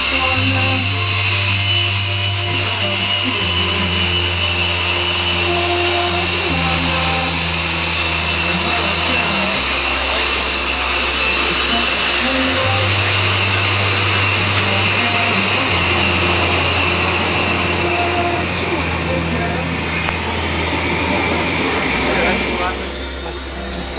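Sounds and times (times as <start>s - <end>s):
jet engines whining: 0.0s - 23.9s.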